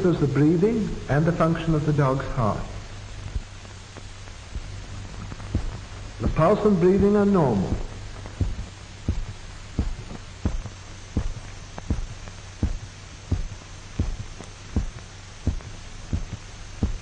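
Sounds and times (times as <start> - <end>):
low steady hum: 0.0 - 17.0
heartbeat double thumps: 2.8 - 17.0.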